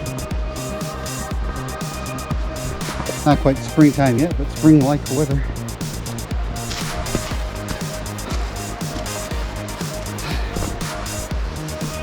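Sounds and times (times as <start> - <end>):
deep kick drum: 0.0 - 12.0.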